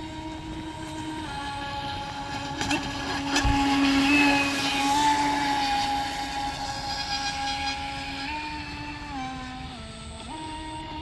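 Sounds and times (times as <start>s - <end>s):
model speedboat motor whining: 0.0s - 11.0s.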